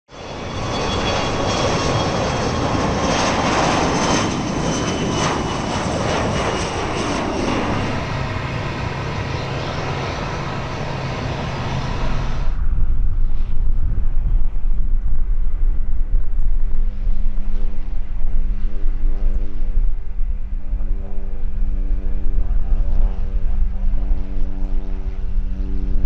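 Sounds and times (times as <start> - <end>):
aircraft engines with turbine whine: 0.1 - 26.0.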